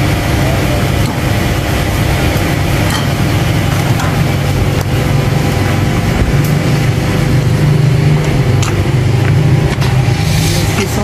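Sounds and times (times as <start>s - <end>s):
engine running with low rumble: 0.0s - 11.0s.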